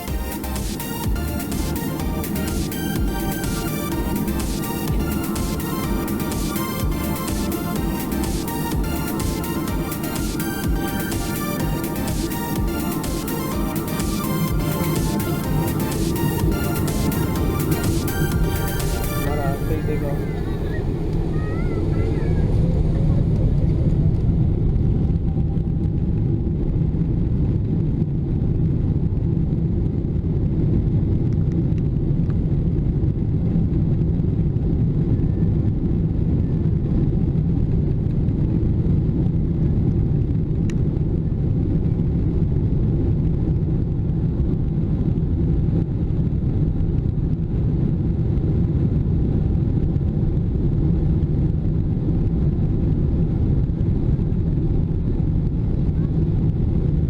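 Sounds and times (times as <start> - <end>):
airplane cabin engine rumble: 0.0 - 57.0
faint engine whine: 0.0 - 57.0.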